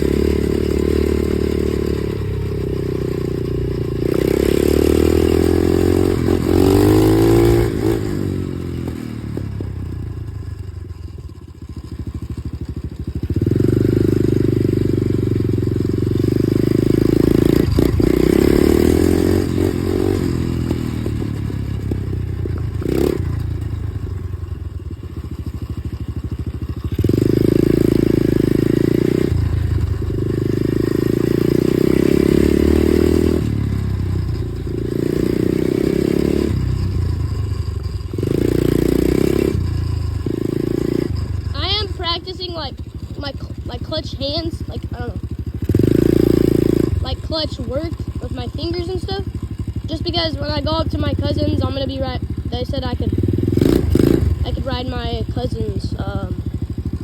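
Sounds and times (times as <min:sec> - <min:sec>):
dirt bike engine revving: 0:00.0 - 0:24.2, 0:25.2 - 0:57.0.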